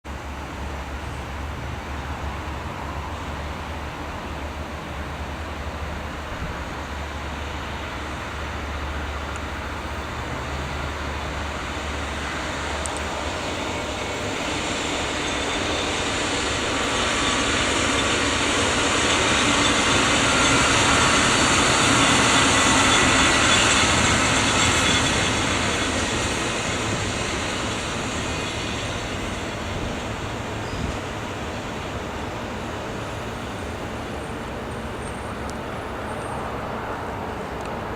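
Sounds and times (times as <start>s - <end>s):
train passing on rails: 0.0s - 37.9s.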